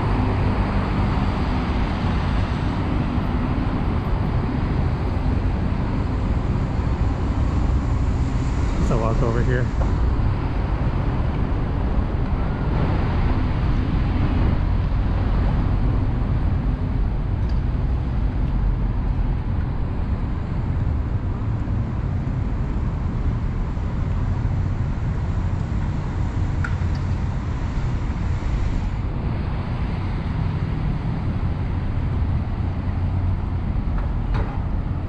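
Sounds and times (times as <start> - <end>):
city road traffic rumble: 0.0 - 35.0.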